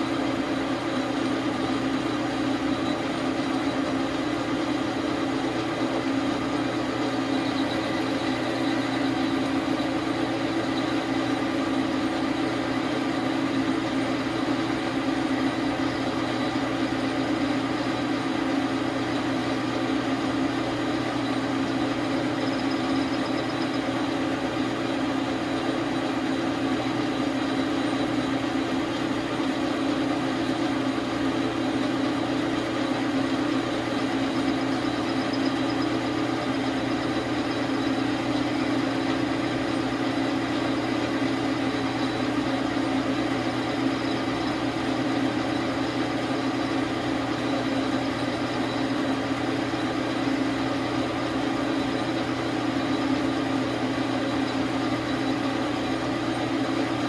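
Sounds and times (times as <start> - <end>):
lathe humming: 0.0 - 57.0.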